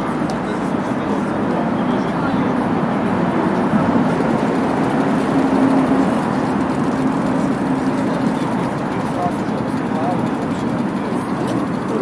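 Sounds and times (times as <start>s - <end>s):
low engine hum: 0.0s - 12.0s
traffic noise: 0.0s - 12.0s.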